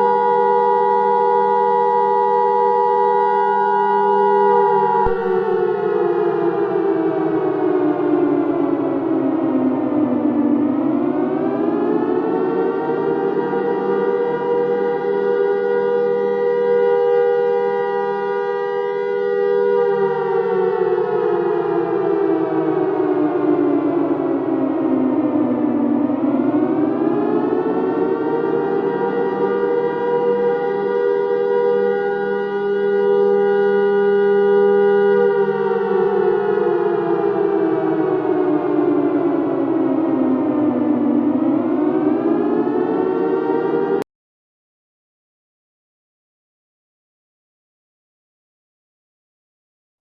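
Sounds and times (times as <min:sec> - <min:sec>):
civil defense siren wailing: 0:00.0 - 0:44.1.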